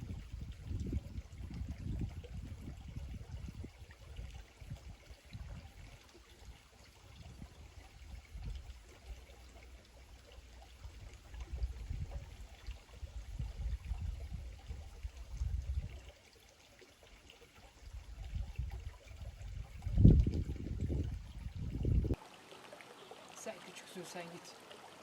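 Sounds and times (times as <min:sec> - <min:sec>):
creek trickling: 0:00.0 - 0:25.0.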